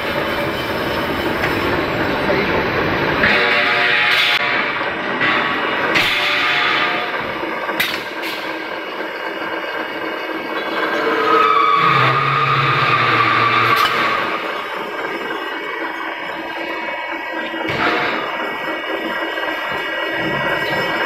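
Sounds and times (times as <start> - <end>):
pipe threading machine running: 0.0 - 21.0.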